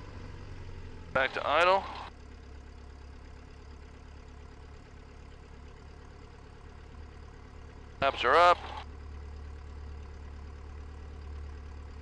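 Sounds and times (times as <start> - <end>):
piston aircraft engine idling: 0.0 - 12.0.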